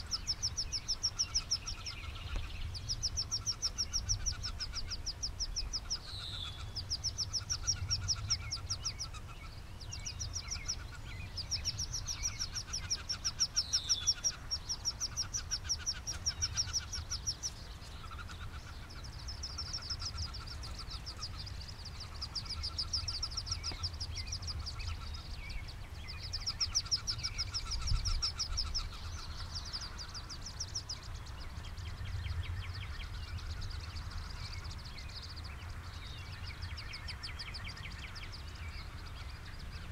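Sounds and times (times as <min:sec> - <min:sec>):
small birds trilling: 0:00.0 - 0:39.9
steady low rumble: 0:00.0 - 0:39.9.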